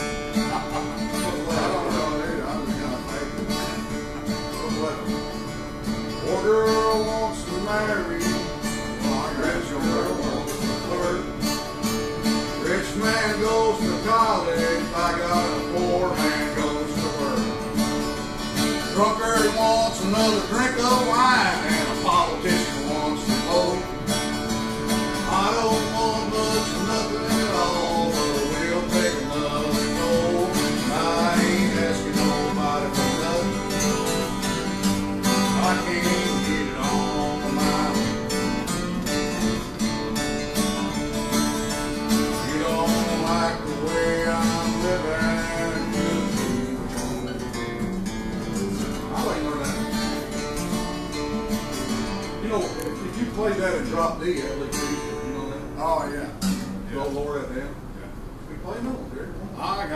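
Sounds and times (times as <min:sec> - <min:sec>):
country acoustic guitar music: 0:00.0 - 0:59.9.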